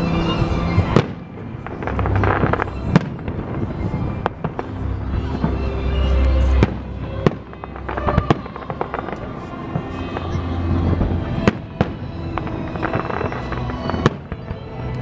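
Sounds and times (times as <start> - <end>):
fireworks bursting with bangs: 0.0 - 15.0
low rumble: 0.0 - 15.0.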